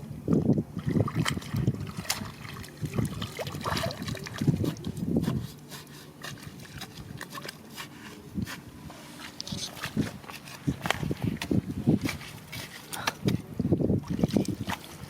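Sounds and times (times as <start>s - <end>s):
water sloshing and trickling: 0.0s - 15.0s.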